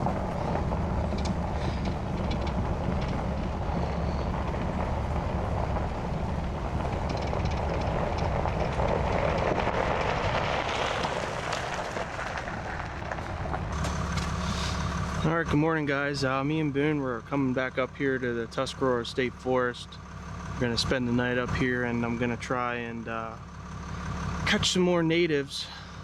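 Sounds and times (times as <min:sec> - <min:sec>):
road and tyre noise: 0:00.0 - 0:26.0
truck engine drone: 0:00.0 - 0:26.0.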